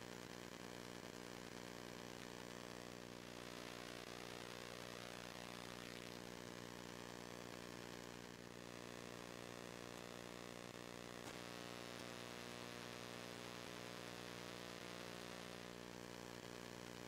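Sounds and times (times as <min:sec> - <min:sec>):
faint electrical hum with hiss: 0:00.0 - 0:17.0.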